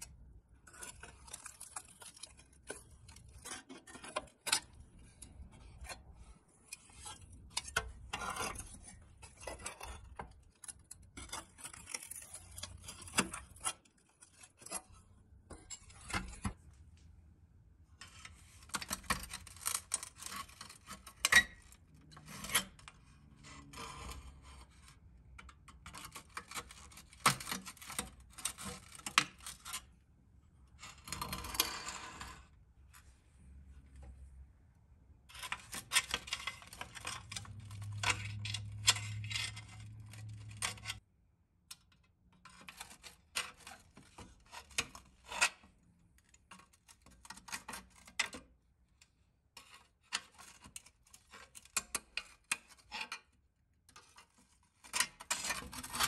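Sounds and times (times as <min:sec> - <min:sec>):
rasping and scraping: 0:00.0 - 0:16.8, 0:18.0 - 0:41.0, 0:42.4 - 0:56.0.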